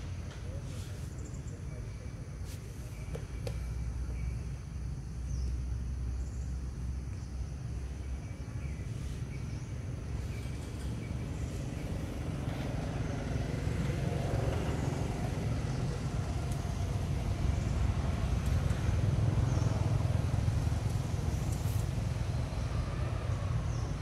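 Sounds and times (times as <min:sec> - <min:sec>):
motor vehicle rumbling: 0:00.0 - 0:24.0.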